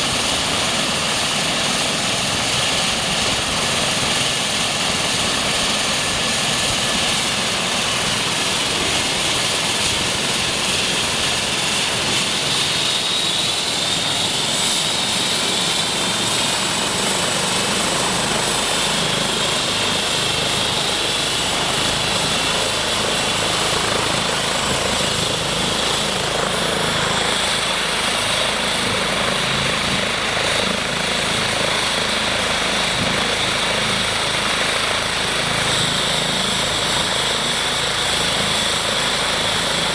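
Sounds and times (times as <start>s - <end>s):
low helicopter rotor throb: 0.0s - 39.9s.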